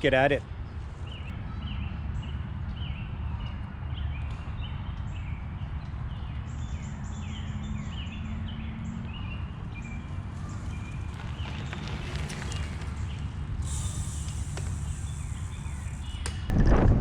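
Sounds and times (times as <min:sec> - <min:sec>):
songbirds chirping: 0:00.0 - 0:16.5
bicycle low rumble: 0:00.5 - 0:17.0.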